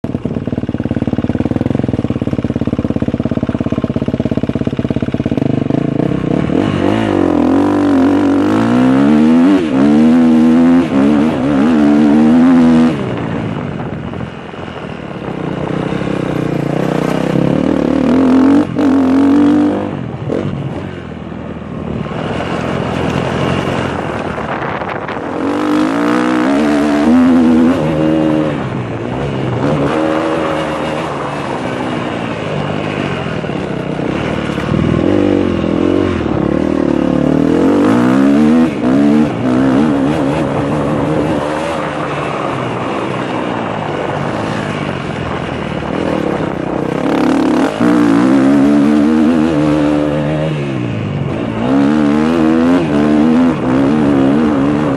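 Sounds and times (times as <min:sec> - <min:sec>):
motocross engine revving: 0:01.0 - 0:13.5, 0:15.6 - 0:20.8, 0:22.0 - 0:54.9.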